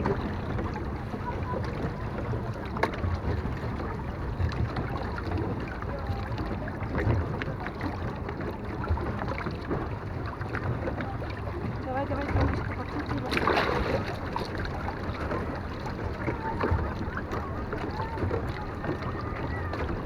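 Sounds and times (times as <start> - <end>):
boat engine rumble: 0.0 - 20.0
water around hull: 0.0 - 20.0.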